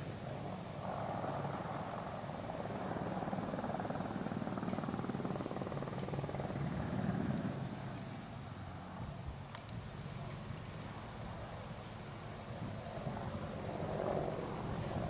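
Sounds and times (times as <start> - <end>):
helicopter rotor blades beating: 0.0 - 9.0, 10.8 - 15.0
helicopter turbine engine whine: 0.0 - 15.0.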